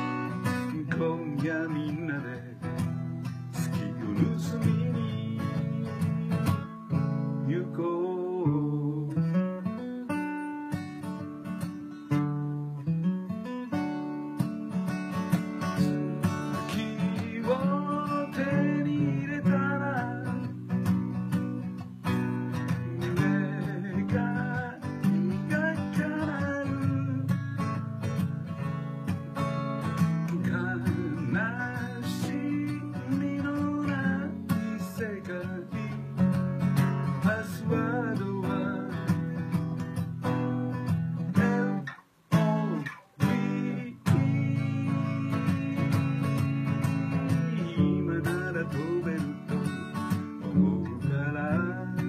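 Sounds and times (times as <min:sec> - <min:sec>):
man singing: 0:00.0 - 0:10.2, 0:15.5 - 0:28.7, 0:29.4 - 0:52.0
acoustic guitar strumming: 0:00.0 - 0:52.0.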